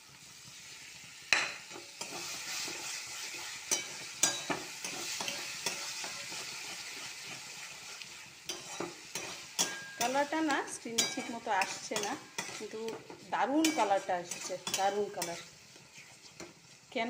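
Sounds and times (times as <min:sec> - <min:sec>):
masala sizzling in hot oil: 0:00.0 - 0:17.0
metal spatula scraping pan: 0:01.7 - 0:16.6.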